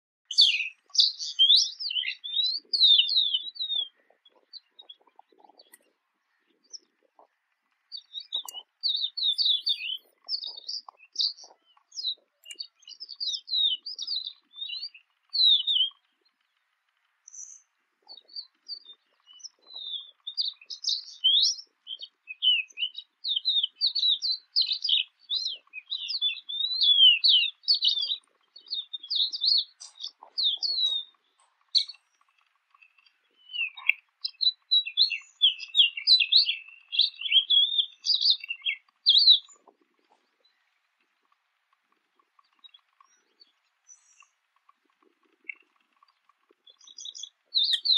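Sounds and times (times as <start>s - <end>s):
bird chattering: 0.3s - 40.7s, 41.3s - 47.9s.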